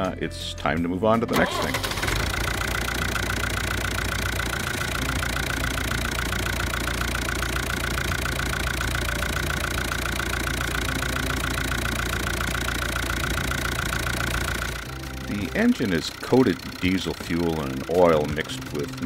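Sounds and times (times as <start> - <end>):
tractor diesel engine idling: 1.3 - 19.0.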